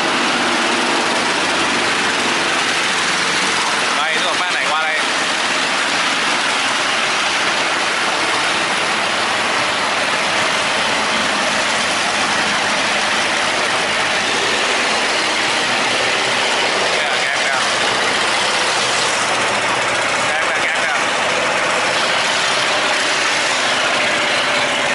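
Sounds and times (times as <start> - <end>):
boat engines droning: 0.0 - 24.9.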